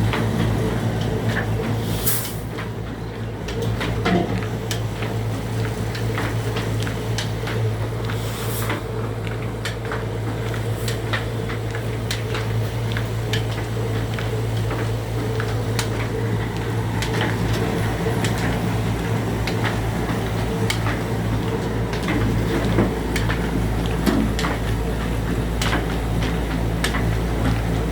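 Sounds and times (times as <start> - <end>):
diesel engine running with knock: 0.0 - 27.9.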